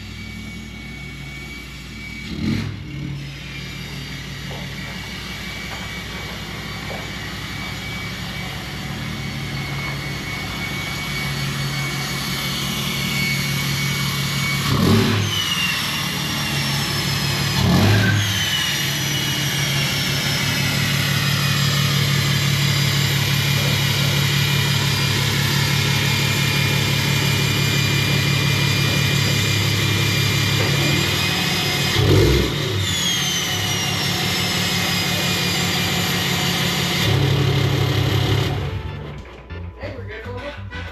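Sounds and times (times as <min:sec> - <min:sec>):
high turbo whistle: 0:00.0 - 0:39.1
diesel truck engine running: 0:00.0 - 0:39.7.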